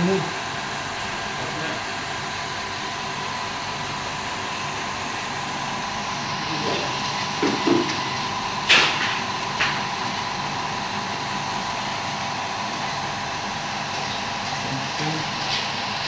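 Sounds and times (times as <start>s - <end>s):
machinery whirring with whine: 0.0s - 16.0s.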